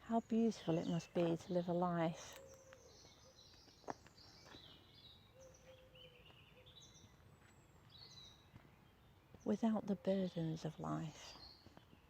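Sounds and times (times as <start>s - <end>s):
birds chirping and whistling: 0.5s - 12.0s.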